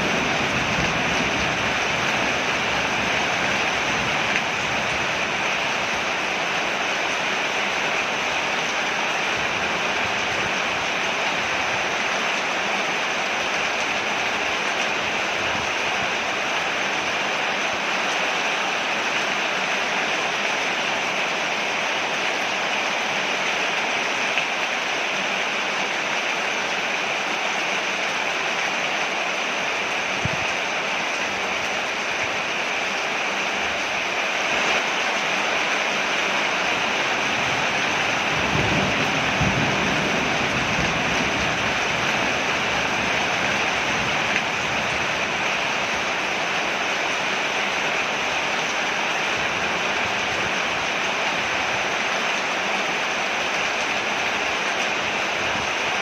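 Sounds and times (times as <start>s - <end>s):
heavy rain on a porch: 0.0s - 56.0s.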